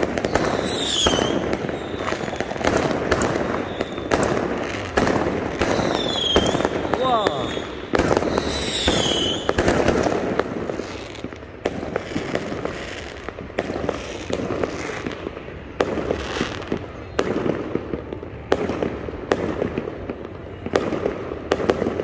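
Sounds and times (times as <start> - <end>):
crackling rumble of fireworks: 0.0 - 22.0
fireworks bangs: 0.0 - 22.0.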